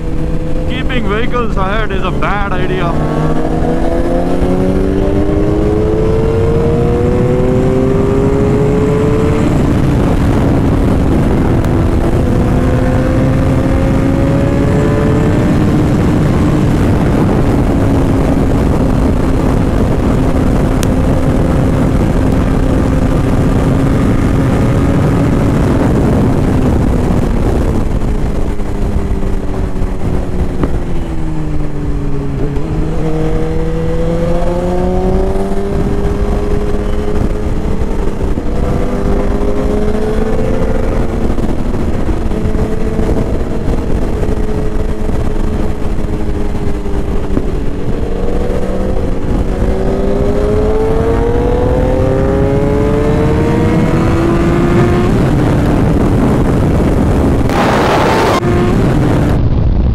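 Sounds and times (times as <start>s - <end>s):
loud wind rush: 0.0s - 59.9s
motorcycle engine accelerating: 0.0s - 59.9s.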